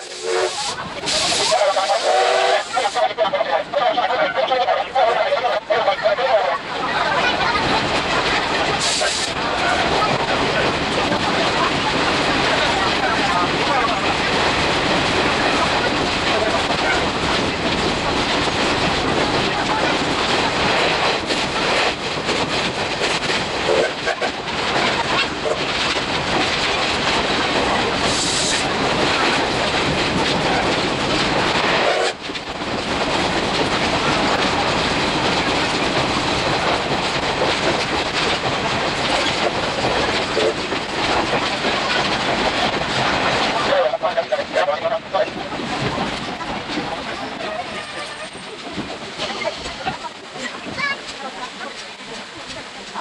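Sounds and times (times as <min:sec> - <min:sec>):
wheel and rail clatter: 0:04.1 - 0:53.0.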